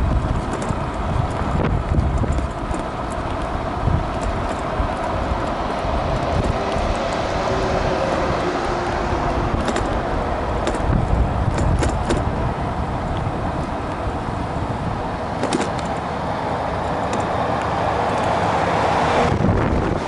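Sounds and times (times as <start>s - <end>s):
electric scooter riding on asphalt: 0.0s - 20.0s
wind rumble: 0.0s - 20.0s.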